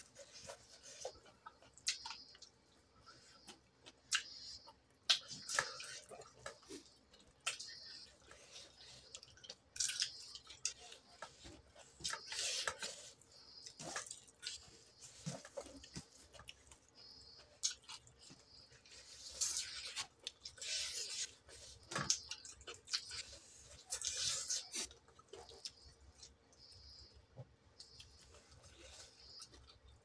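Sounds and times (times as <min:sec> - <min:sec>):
wet chewing and lip-smacking: 0:00.0 - 0:30.0.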